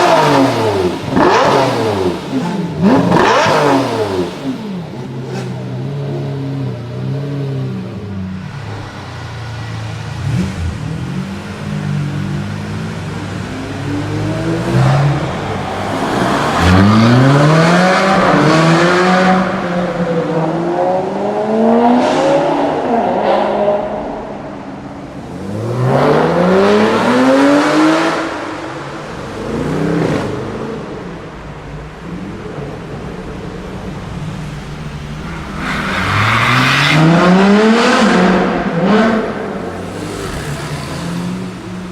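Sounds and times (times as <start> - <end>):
supercar engines accelerating: 0.0 - 41.9.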